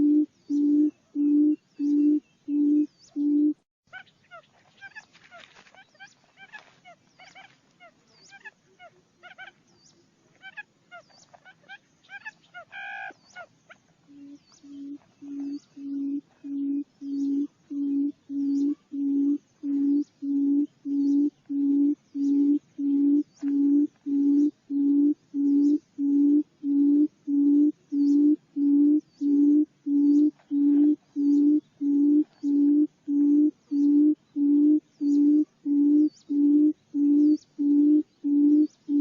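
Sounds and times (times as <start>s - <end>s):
low hooting bird call: 0.0s - 9.6s, 10.4s - 39.0s
small birds chirping: 0.0s - 39.0s.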